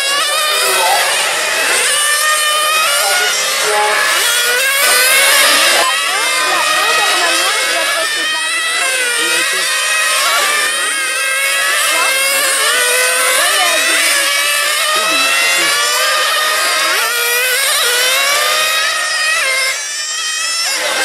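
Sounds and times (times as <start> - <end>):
radio-controlled car engines revving: 0.0 - 21.0.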